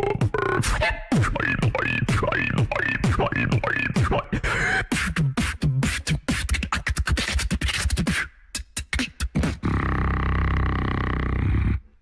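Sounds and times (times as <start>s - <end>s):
person beatboxing into a microphone: 0.0s - 12.0s.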